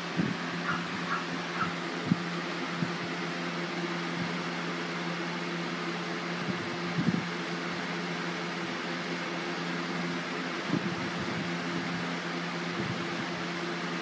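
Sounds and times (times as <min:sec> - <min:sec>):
fan humming and hissing: 0:00.0 - 0:14.0.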